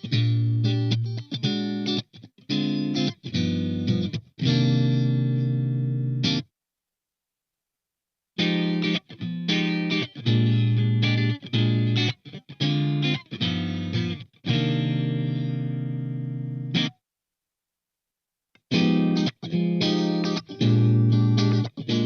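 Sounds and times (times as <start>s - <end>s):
overdriven electric guitar chords: 0.0s - 6.4s, 8.4s - 16.9s, 18.7s - 22.0s.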